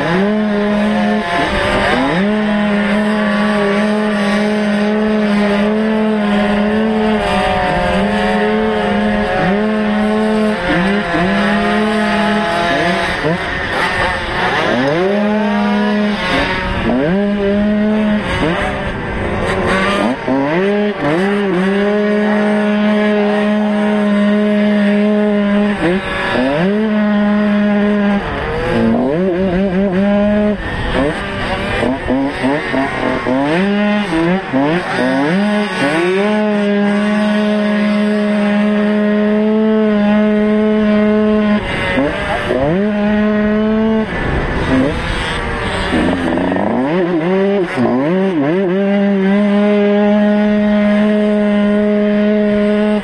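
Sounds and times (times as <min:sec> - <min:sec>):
motocross bike engine revving: 0:00.0 - 0:53.0.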